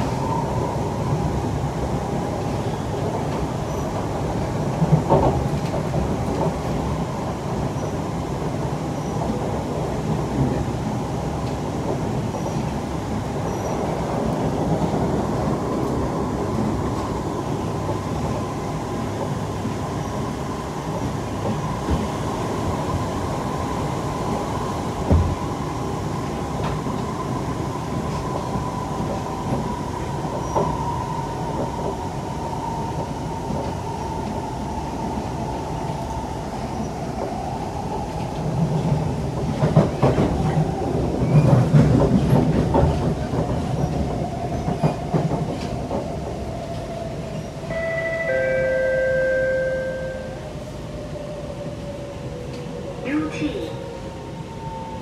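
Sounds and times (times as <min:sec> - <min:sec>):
train clatter and clicks: 0:00.0 - 0:49.8
train rumble with whine: 0:00.0 - 0:55.0.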